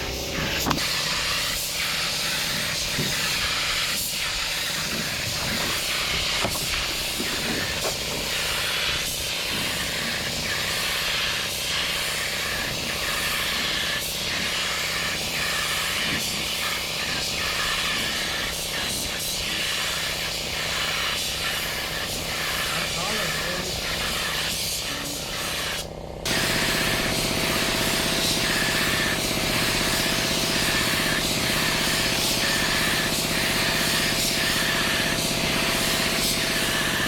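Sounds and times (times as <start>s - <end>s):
compressed air hissing: 0.0s - 37.0s.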